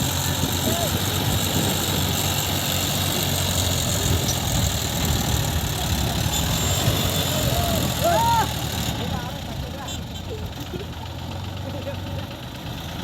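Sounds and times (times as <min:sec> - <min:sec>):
diesel engine running low revs: 0:00.0 - 0:13.0.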